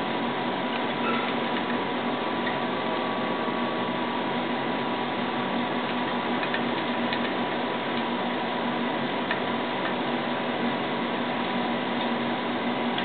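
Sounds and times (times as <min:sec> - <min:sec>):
faint constant hum: 0:00.0 - 0:13.0.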